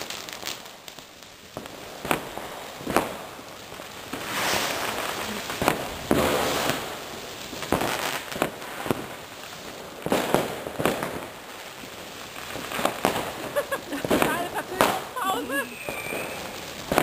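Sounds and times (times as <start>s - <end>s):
firework fountain hissing: 0.0s - 17.0s
firecracker bangs: 1.6s - 3.5s, 4.1s - 9.2s, 9.8s - 17.0s.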